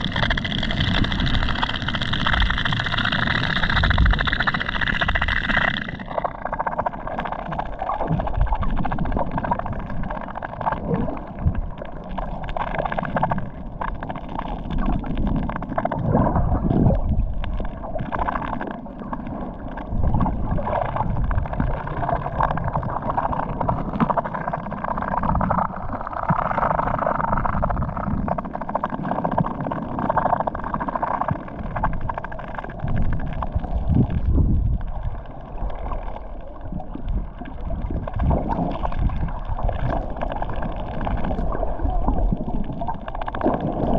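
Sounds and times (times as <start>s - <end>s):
sea water gurgling and sloshing: 0.0s - 43.9s.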